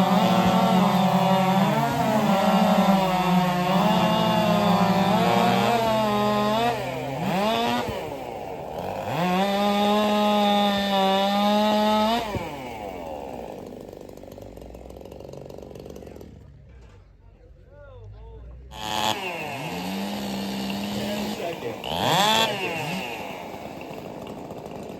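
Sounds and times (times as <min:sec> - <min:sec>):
race chainsaws at full throttle: 0:00.0 - 0:17.0, 0:18.5 - 0:24.9.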